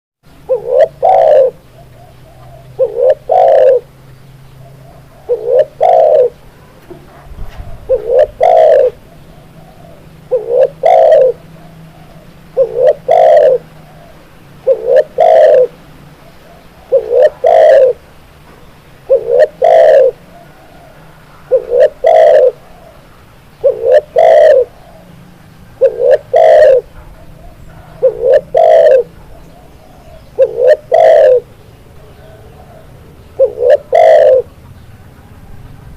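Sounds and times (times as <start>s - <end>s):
dove cooing: 0.3s - 18.2s, 19.0s - 34.6s.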